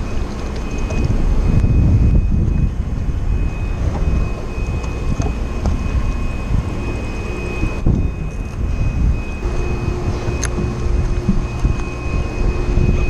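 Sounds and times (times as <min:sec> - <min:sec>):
boat low rumble: 0:00.0 - 0:13.0.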